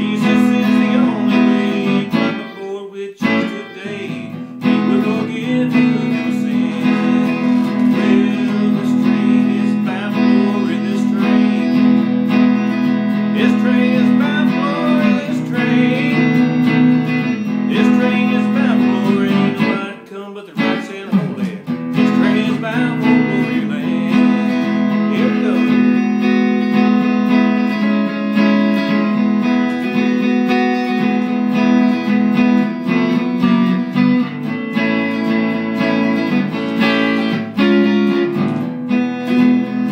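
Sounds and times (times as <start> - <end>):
man singing: 0.0 - 32.1
electric guitar playing blues: 0.0 - 39.9.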